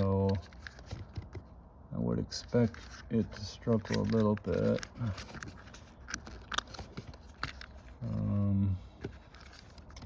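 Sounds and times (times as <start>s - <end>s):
plastic clicks and scrapes: 0.0s - 1.5s, 2.4s - 8.4s, 9.0s - 10.0s.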